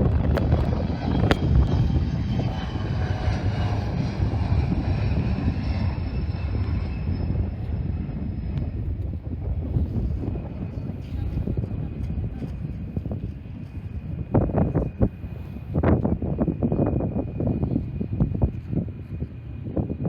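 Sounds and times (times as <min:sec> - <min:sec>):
jet airliner passing: 0:00.0 - 0:20.0.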